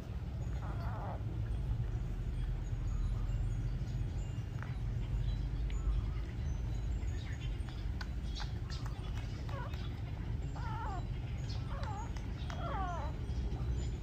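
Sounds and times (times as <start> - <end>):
low background rumble: 0.0 - 14.0
puppies whimpering: 0.0 - 14.0.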